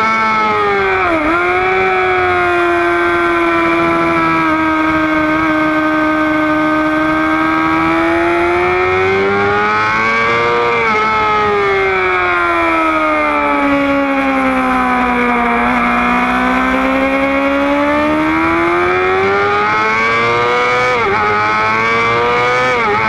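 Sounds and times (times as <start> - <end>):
motorcycle engine revving high: 0.0 - 23.0.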